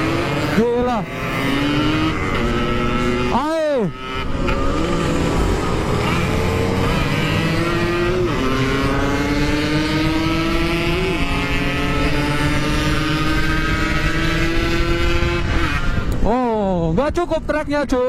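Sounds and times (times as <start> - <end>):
motorcycle accelerating: 0.0 - 18.0.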